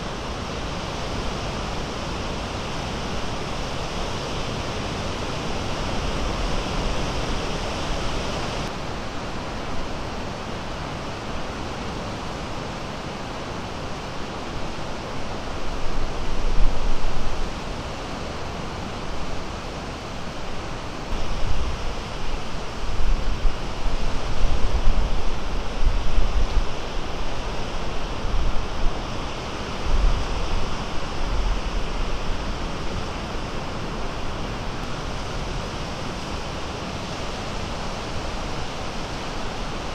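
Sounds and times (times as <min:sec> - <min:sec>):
wind gusts on microphone: 0:00.0 - 0:39.9.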